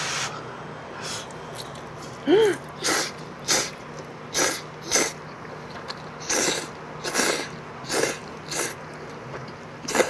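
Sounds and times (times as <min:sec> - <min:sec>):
noodles being slurped: 0:01.1 - 0:10.0.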